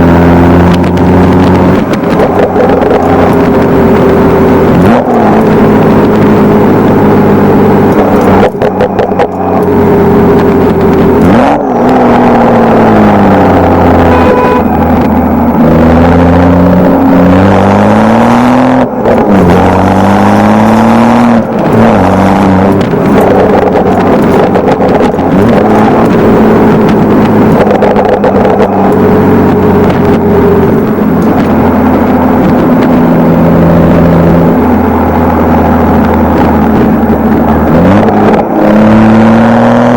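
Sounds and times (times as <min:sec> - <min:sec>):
car engine revving: 0:00.0 - 0:39.9
exhaust cracks: 0:00.0 - 0:39.9.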